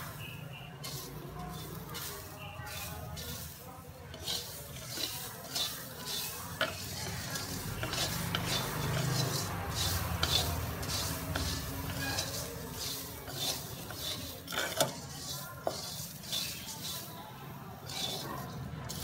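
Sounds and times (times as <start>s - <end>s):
light sizzle: 0.0s - 19.0s
spatula scraping pan: 0.0s - 19.0s
spatula clicking on pan: 0.8s - 17.1s.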